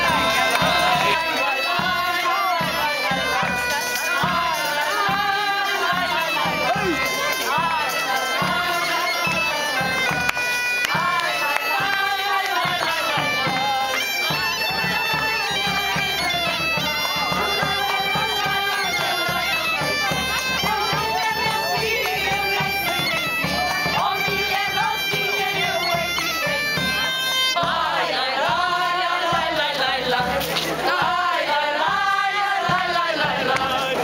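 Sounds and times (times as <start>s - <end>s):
drum playing: 0.0s - 9.0s, 10.9s - 34.0s
bagpipe playing dance tune: 0.0s - 34.0s
people singing: 0.0s - 34.0s
wooden pipe playing: 0.0s - 34.0s.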